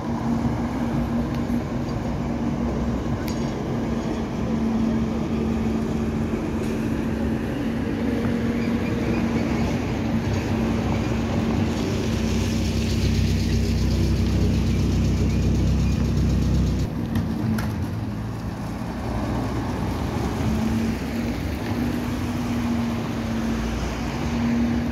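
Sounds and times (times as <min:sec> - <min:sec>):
trolleybus electric hum: 0:00.0 - 0:24.9.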